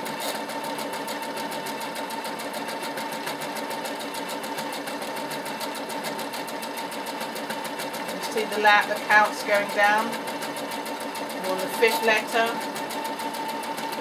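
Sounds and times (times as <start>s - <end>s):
sewing machine stitching: 0.0s - 14.0s.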